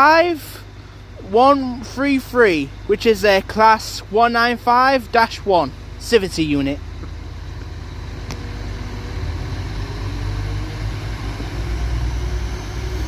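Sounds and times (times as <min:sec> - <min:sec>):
diesel train engines running: 0:00.0 - 0:13.0.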